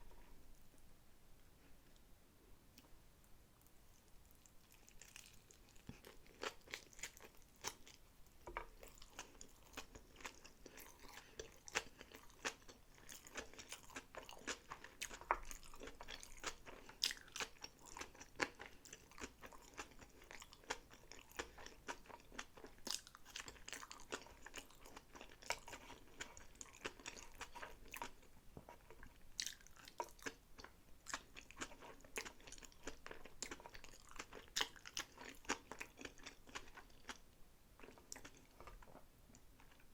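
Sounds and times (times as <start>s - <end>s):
person chewing: 4.0s - 39.9s.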